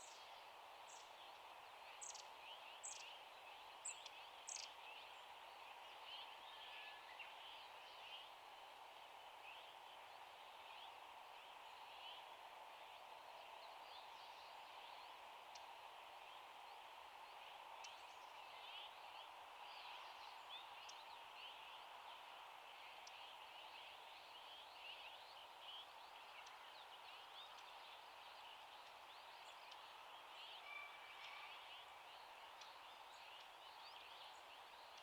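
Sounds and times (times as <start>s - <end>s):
outdoor background hiss: 0.0s - 35.0s.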